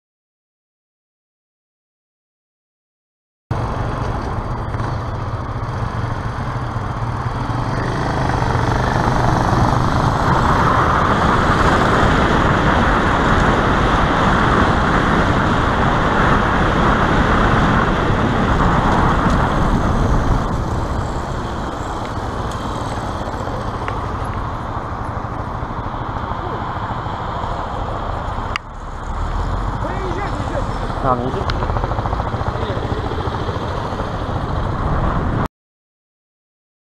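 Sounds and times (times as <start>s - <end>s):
road and traffic noise: 3.5s - 35.5s
wind rushing over camera: 3.5s - 35.5s.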